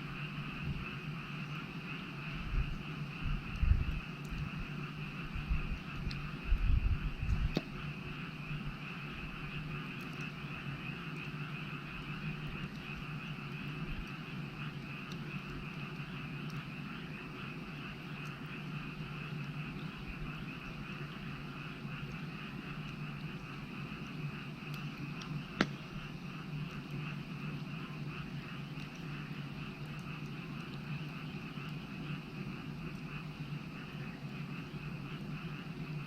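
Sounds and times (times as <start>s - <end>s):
frog chorus: 0.0s - 36.0s
wood fire crackling: 0.0s - 36.0s.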